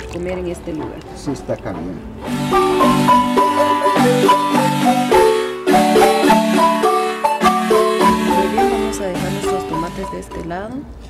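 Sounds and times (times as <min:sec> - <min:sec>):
marimba music: 0:00.0 - 0:10.9.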